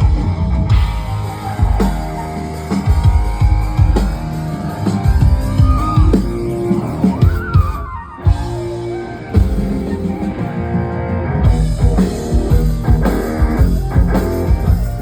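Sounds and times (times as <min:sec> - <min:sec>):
drum kit steady beat: 0:00.0 - 0:15.0
sustained guitar notes: 0:00.6 - 0:15.0.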